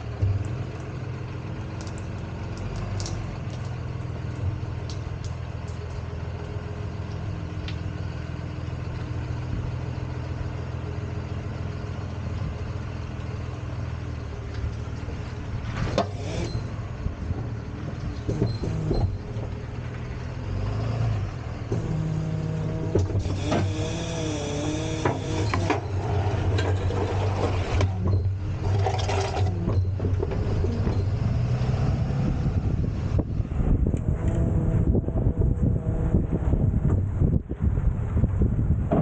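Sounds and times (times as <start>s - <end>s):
tow truck engine running: 0.0s - 39.0s.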